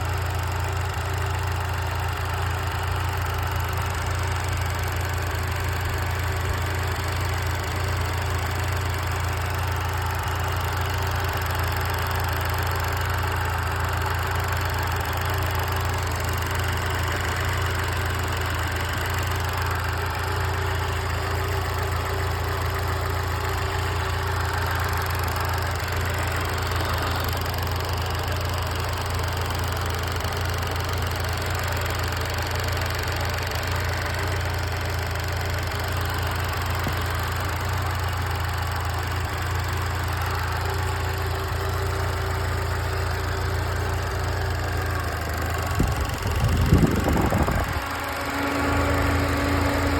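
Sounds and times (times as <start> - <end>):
car engine idling with knock: 0.0 - 49.9.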